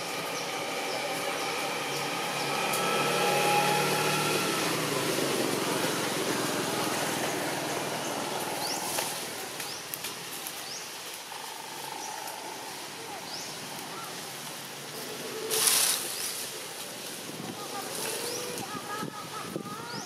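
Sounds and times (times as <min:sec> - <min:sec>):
vehicle engine passing: 0:00.0 - 0:19.6
road noise: 0:00.0 - 0:20.0.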